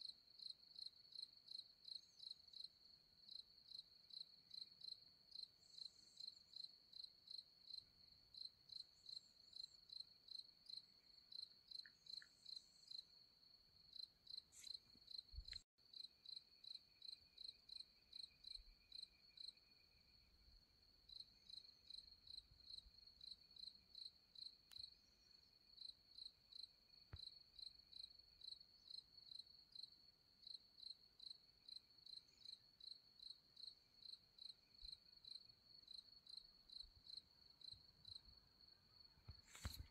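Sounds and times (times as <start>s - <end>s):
crickets chirping: 0.4s - 39.9s.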